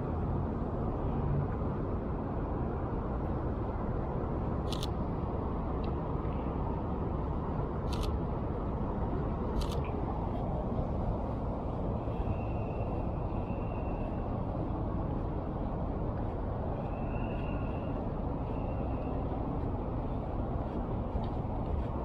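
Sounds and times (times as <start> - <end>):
city street traffic: 0.0 - 22.0.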